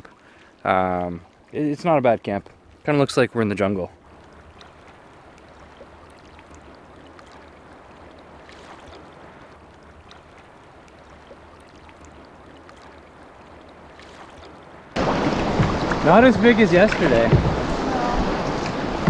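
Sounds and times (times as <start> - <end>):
lake water lapping at shore: 0.0 - 19.0.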